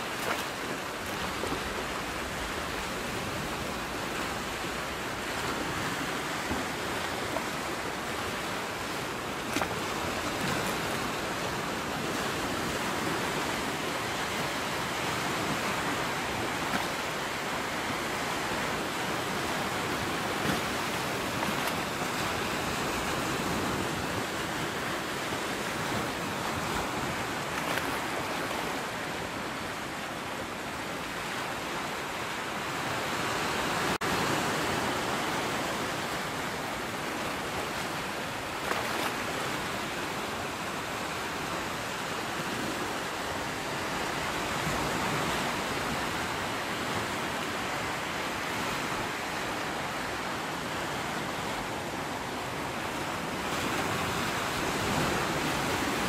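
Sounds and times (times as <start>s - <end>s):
surf washing on shore: 0.0s - 56.0s.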